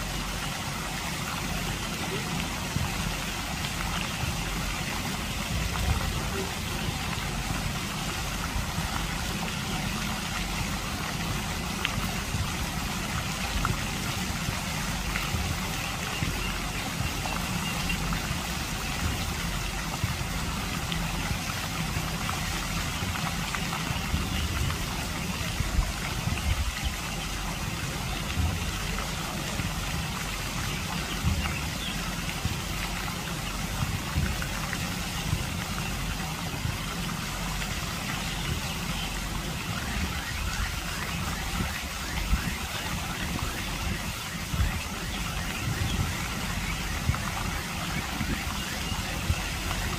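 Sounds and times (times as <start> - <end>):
fountain jets splashing on water: 0.0 - 49.9.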